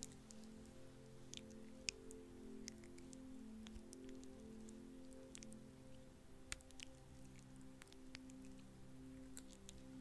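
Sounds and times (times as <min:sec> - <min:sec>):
ambient pad music: 0:00.0 - 0:10.0.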